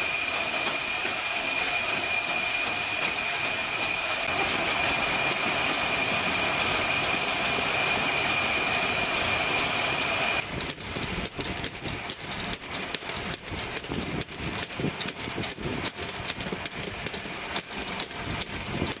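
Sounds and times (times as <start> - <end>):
washing machine whine: 0.0 - 19.0.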